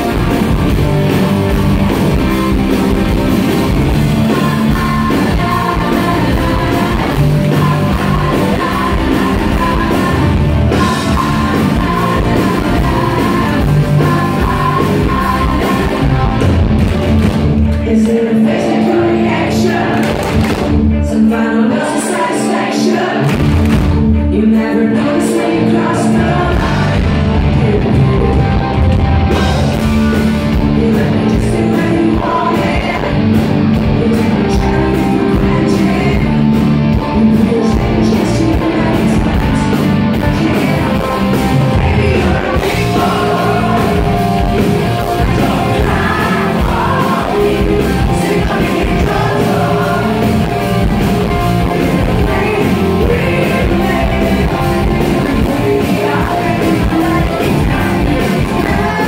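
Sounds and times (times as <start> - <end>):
drums: 0.0 - 59.0
electric guitar: 0.0 - 59.0
woman singing: 3.9 - 16.4, 17.8 - 20.2, 21.0 - 23.4, 24.2 - 28.6, 30.6 - 50.7, 51.6 - 59.0.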